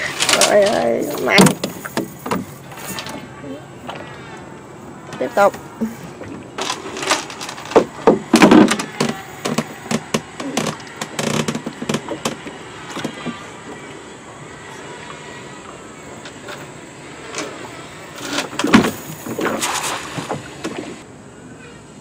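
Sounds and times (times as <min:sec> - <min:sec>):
knocks and clatter in a boat: 0:00.0 - 0:21.0.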